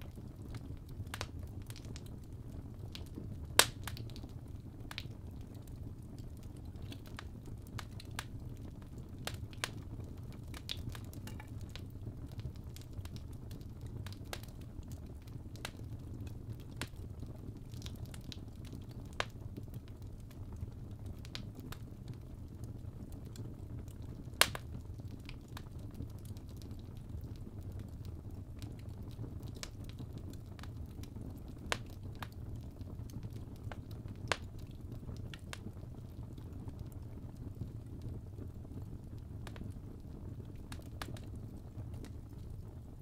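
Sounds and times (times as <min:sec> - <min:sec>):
fire crackling and popping: 0:00.0 - 0:43.0
low steady fire rumble: 0:00.0 - 0:43.0.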